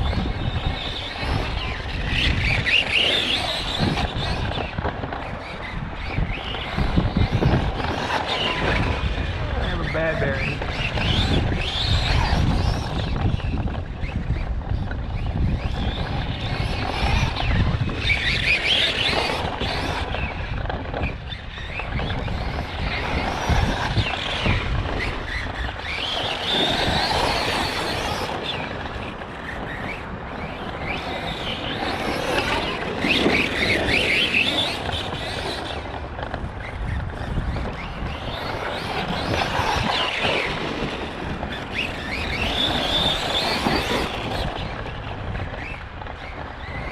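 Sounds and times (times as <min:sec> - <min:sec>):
electric motor whining: 0:00.0 - 0:46.8.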